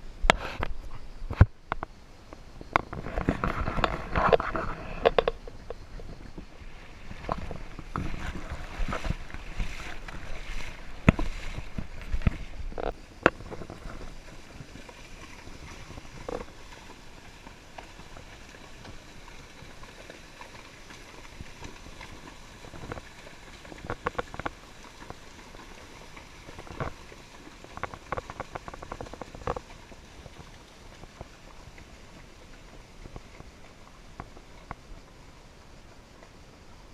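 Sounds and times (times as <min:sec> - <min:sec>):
creek water running: 0:00.0 - 0:36.9.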